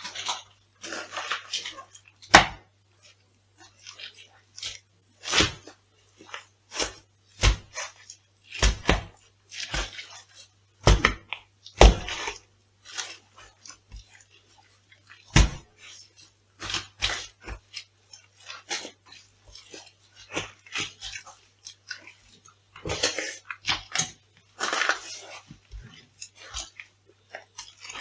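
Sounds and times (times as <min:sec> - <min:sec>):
food crunching underfoot: 0:00.0 - 0:28.0.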